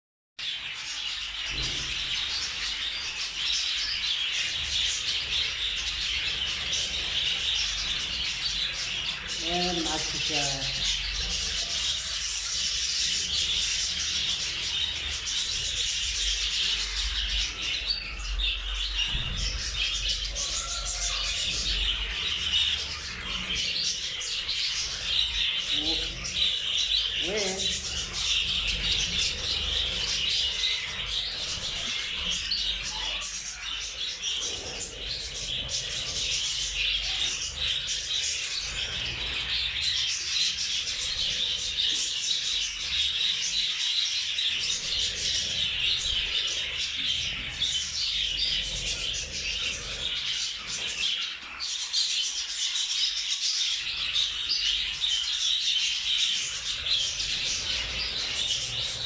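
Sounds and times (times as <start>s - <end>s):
lovebirds chattering and chirping: 0.4s - 59.0s.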